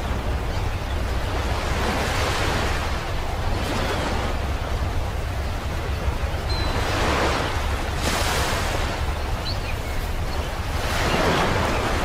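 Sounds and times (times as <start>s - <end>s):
ocean surf washing onto beach: 0.0s - 12.0s.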